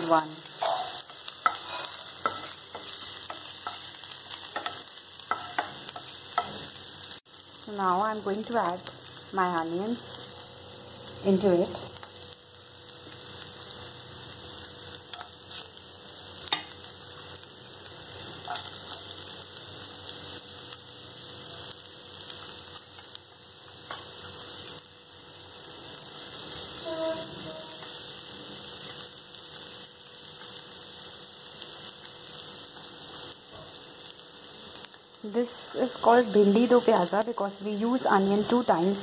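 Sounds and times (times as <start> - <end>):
oil sizzling in frying pan: 0.0 - 39.0.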